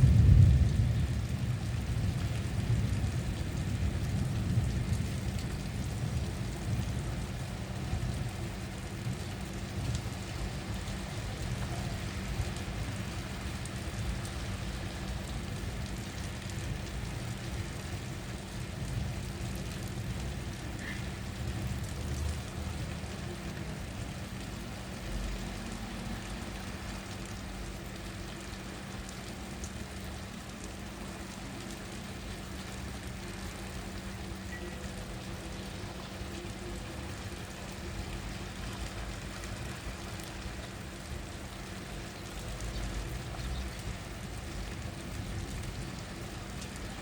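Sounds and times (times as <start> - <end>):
low continuous rumble: 0.0 - 47.0
rain falling: 0.0 - 47.0.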